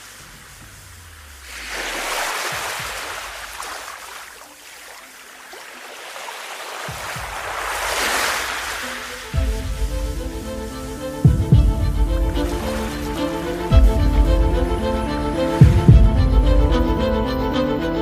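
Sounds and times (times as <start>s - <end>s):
rushing water swells: 0.0s - 18.0s
sea waves washing: 0.0s - 18.0s.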